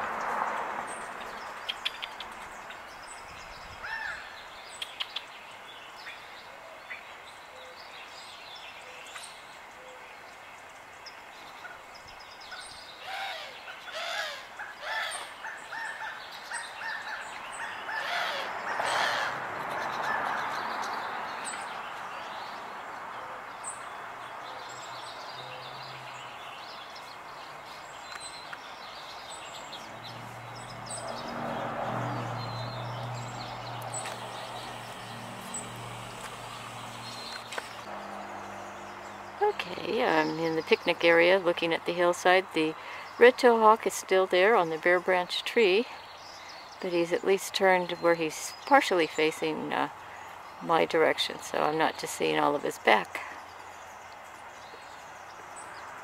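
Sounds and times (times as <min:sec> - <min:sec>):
small birds chirping and singing: 0:00.0 - 0:56.0.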